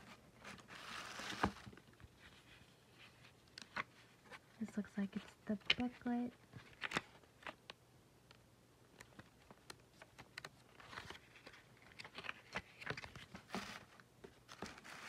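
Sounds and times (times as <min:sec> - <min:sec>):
page-turn rustles: 0:00.0 - 0:04.5, 0:05.2 - 0:07.6, 0:09.0 - 0:15.0
paper pages rustling: 0:00.0 - 0:04.5, 0:05.1 - 0:07.6, 0:08.9 - 0:15.0.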